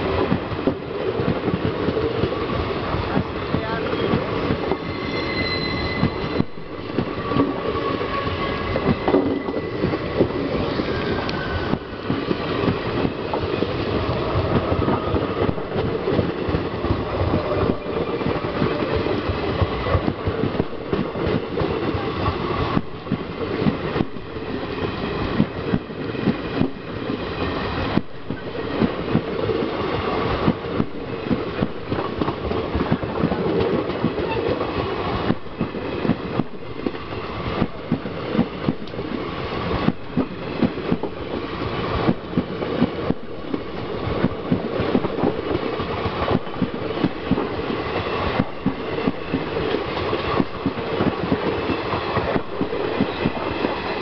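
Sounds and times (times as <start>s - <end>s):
train rolling rumble: 0.0s - 54.0s
train wheels clacking over rail joints: 0.1s - 54.0s.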